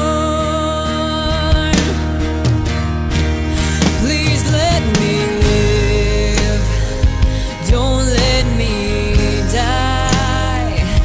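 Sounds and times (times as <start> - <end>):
woman singing: 0.0 - 2.7, 3.6 - 11.0
instrumental backing: 0.0 - 11.0.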